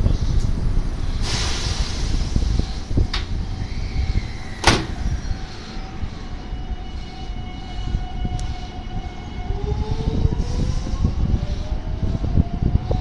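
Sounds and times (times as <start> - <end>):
train electrical hum: 0.0 - 13.0.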